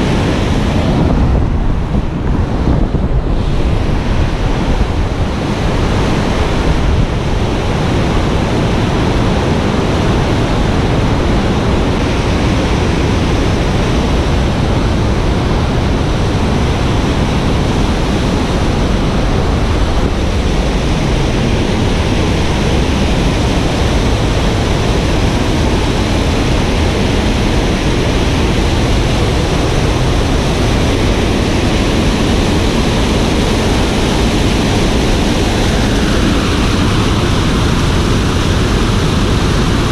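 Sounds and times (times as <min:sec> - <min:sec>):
water rushing over rapids: 0:00.0 - 0:39.9.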